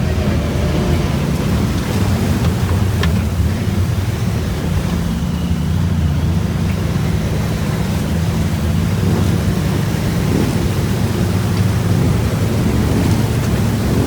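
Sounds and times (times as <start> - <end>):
atv engine low rumble: 0.0 - 14.0.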